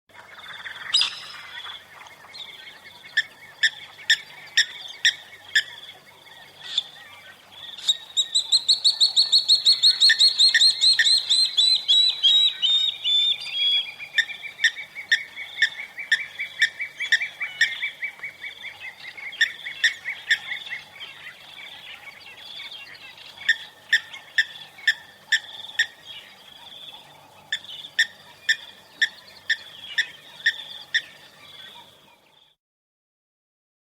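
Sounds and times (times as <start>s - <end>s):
birds chirping: 0.3s - 32.6s.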